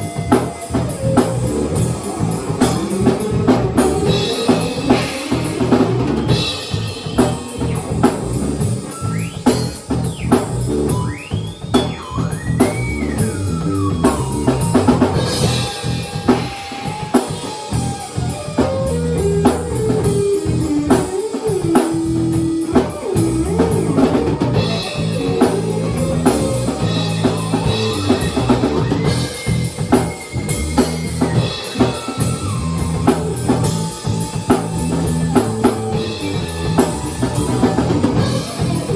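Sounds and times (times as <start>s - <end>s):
drum kit beat: 0.0s - 38.9s
lead guitar bending pitch: 0.0s - 38.9s.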